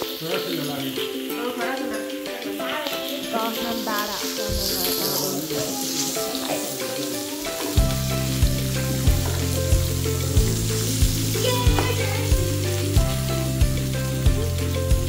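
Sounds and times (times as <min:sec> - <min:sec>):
background music with deep beat: 0:00.0 - 0:15.0
meat sizzling on grill pan: 0:00.0 - 0:15.0.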